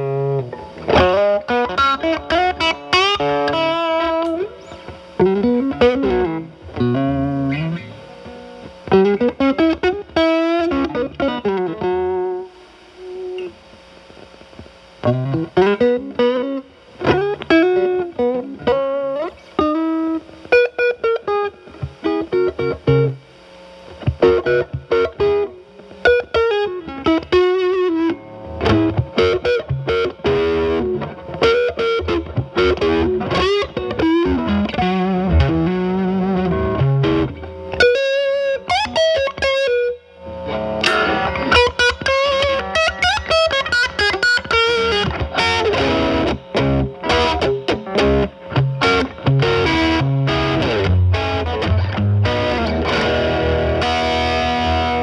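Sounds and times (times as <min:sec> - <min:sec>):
overdriven electric guitar lead: 0:00.0 - 0:55.0.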